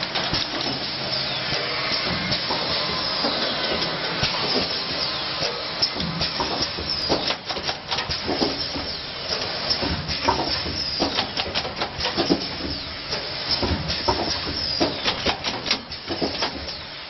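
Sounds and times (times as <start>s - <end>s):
machine clicks and knocks: 0.0s - 1.0s, 2.0s - 16.8s
machine hissing: 0.0s - 17.0s.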